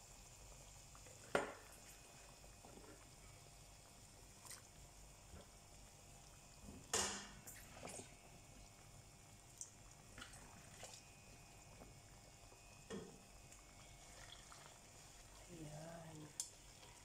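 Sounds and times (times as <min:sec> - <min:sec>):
oil bubbling around frying potatoes: 0:00.0 - 0:17.0.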